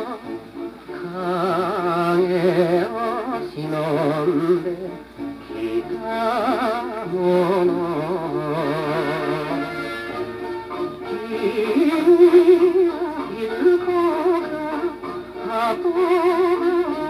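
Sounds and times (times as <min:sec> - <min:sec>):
old song from a record: 0:00.0 - 0:17.0.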